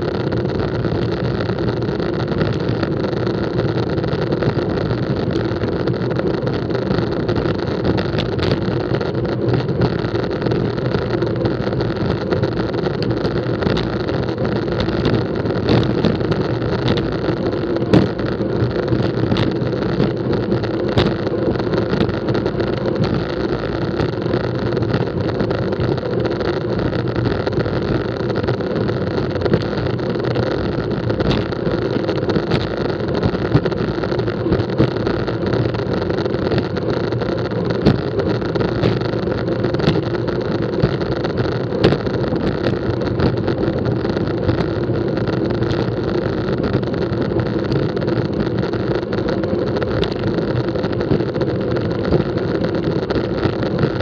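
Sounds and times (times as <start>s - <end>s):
road rumble: 0.0s - 54.0s.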